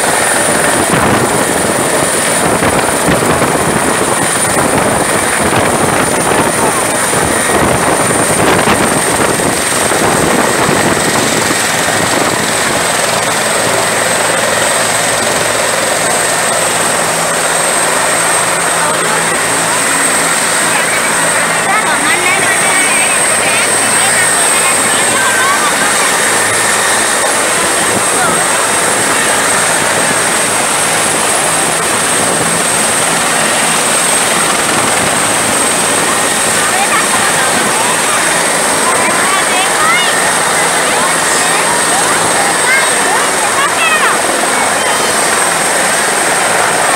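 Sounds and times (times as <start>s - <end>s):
helicopter rotor and engine: 0.0s - 46.9s
high turbine whine: 0.0s - 46.9s.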